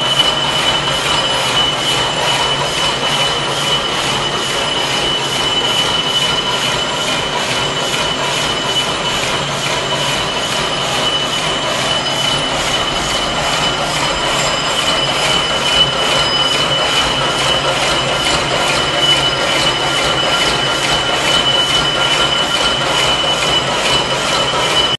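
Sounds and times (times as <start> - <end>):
high squeal: 0.0 - 24.9
machine metallic clatter: 0.0 - 24.9.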